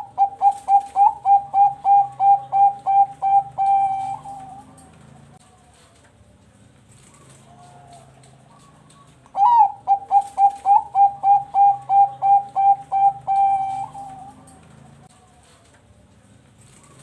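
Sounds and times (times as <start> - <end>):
dove cooing song: 0.0 - 5.9, 6.9 - 15.8.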